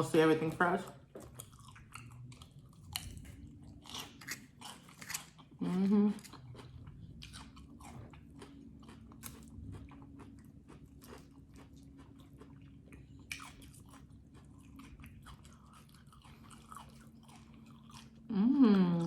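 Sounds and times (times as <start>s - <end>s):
low steady hum: 0.0s - 19.0s
person chewing food: 0.9s - 18.3s.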